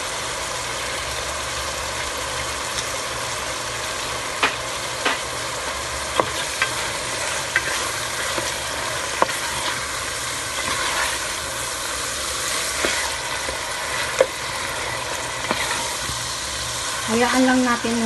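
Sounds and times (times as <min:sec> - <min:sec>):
chicken sizzling in butter: 0:00.0 - 0:18.0.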